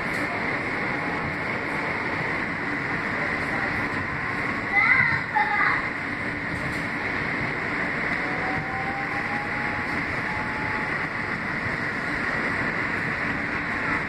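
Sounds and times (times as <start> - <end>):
subway car rumbling: 0.0 - 14.0.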